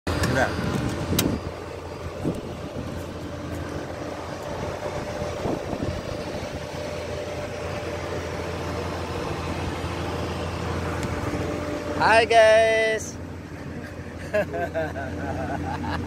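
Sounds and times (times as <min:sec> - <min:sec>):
steady machine hum: 0:00.1 - 0:16.0.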